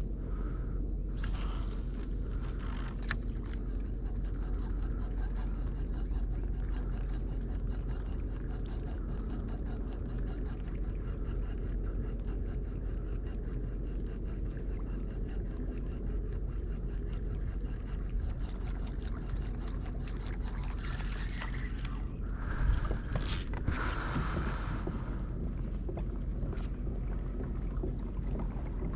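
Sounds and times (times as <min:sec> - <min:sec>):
water around a kayak: 0:00.0 - 0:28.9
wind: 0:00.0 - 0:28.9.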